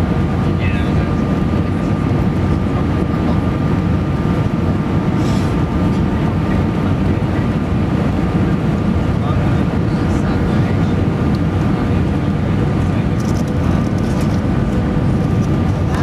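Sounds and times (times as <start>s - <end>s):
jet cabin engine and airflow roar: 0.0s - 16.0s.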